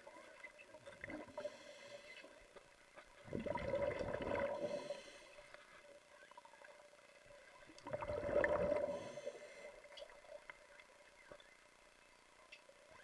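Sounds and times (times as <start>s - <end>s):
underwater hum: 0.0s - 13.0s
water sloshing and bubbling: 0.0s - 13.0s.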